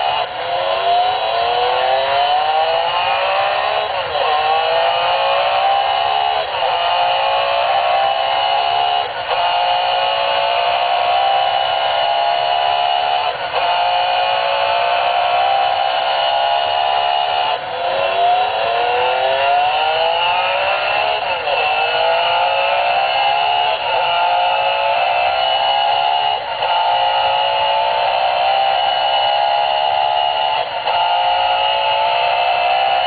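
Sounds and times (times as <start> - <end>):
electronic engine sound effect revving: 0.0 - 33.0.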